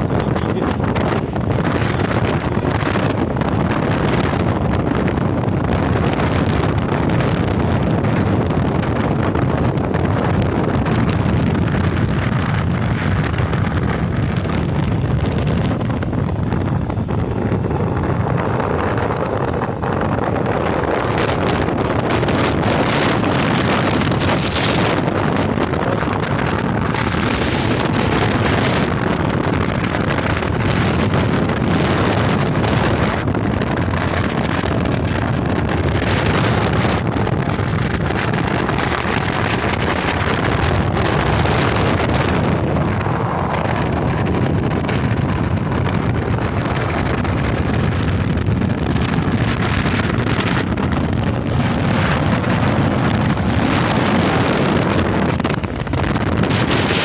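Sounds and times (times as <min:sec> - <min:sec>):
motorcycle running: 0:00.0 - 0:57.0
road noise: 0:00.0 - 0:57.0
wind buffeting microphone: 0:00.0 - 0:57.0.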